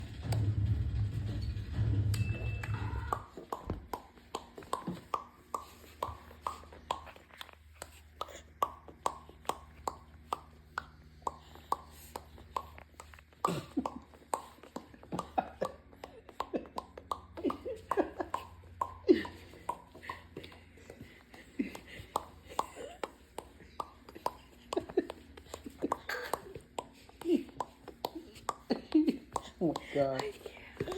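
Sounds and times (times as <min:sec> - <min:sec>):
person making mouth pops: 0:03.0 - 0:20.6, 0:21.3 - 0:30.9.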